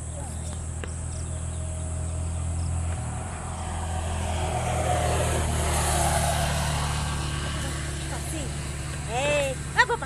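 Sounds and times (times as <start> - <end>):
motorcycle passing by: 0.0 - 10.0.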